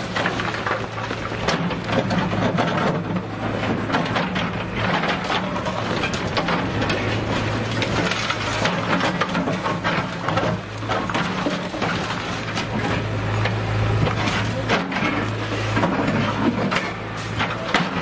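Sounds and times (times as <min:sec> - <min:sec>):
breaking masonry crunching: 0:00.0 - 0:18.0
diesel engine running: 0:00.0 - 0:18.0.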